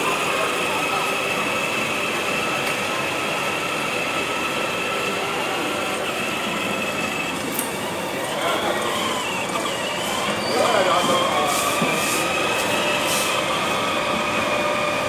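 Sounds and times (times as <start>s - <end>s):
toy car electric motor whine: 0.4s - 15.0s
wheels rolling: 2.4s - 15.0s.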